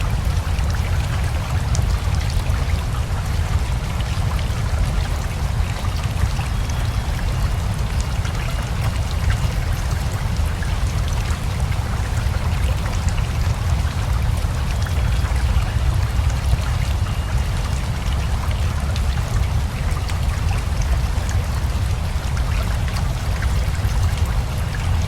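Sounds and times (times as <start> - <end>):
river flowing: 0.0 - 25.0
steady rain: 0.0 - 25.0.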